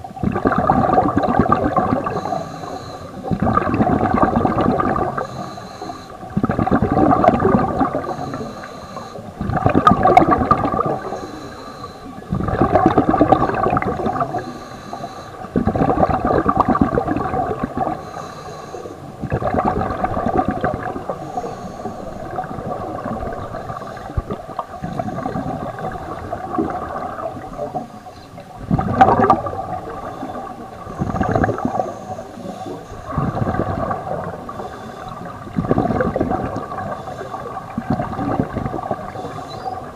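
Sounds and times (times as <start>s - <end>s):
exhaled bubbles gurgling underwater: 0.0s - 39.9s.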